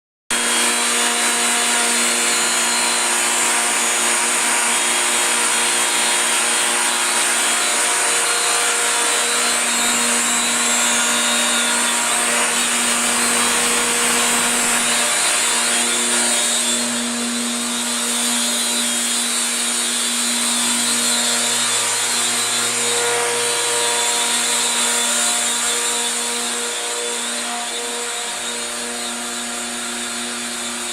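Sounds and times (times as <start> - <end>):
router spindle whine: 0.3 - 30.9.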